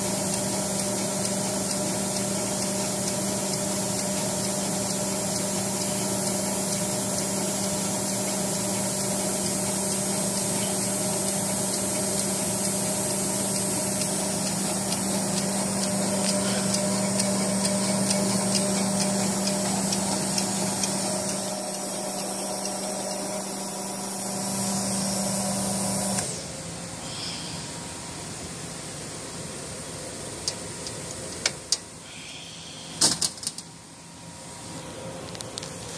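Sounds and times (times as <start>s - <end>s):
capsule filling machine humming: 0.0s - 33.0s.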